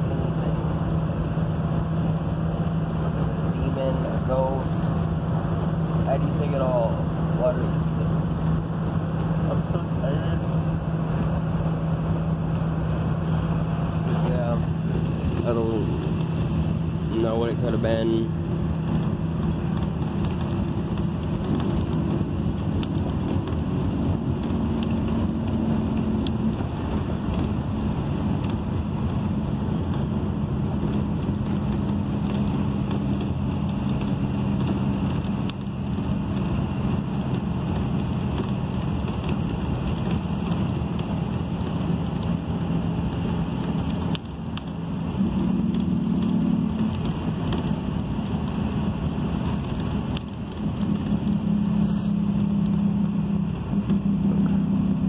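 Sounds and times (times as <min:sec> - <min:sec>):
bus engine drone: 0:00.0 - 0:55.0
tyre and road noise: 0:00.0 - 0:55.0.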